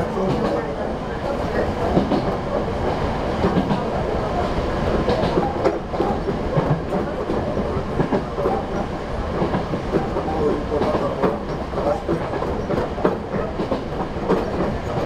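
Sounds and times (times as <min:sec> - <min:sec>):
wheels clicking over rail joints: 0:00.0 - 0:02.7, 0:04.9 - 0:15.0
train running noise: 0:00.0 - 0:15.0.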